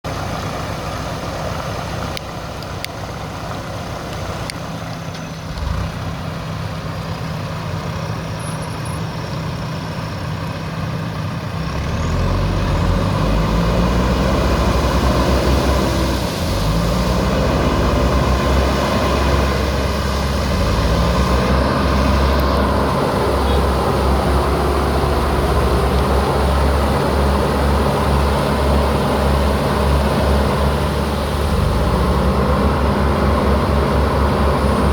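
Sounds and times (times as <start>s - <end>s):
diesel engine revving: 0.0s - 8.4s, 9.3s - 34.9s.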